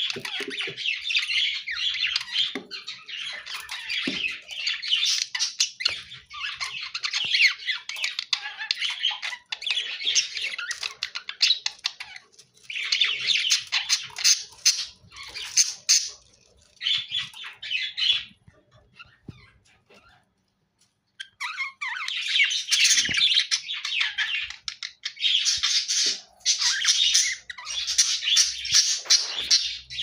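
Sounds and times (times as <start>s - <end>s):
budgerigars chattering and squawking: 0.0s - 20.3s, 21.2s - 30.0s.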